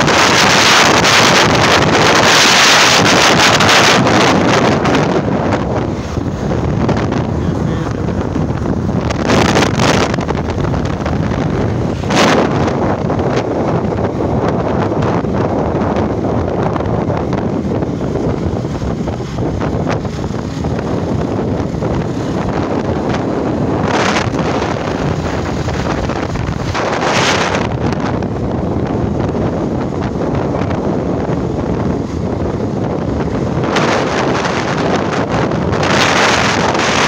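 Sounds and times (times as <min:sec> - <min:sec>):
motorcycle riding: 0:00.0 - 0:37.0
wind buffeting microphone: 0:00.0 - 0:37.0.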